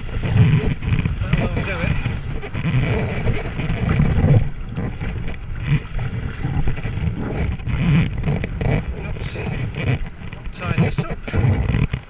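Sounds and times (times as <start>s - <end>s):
water splashing: 0.0s - 12.0s
wind buffeting microphone: 0.0s - 12.0s.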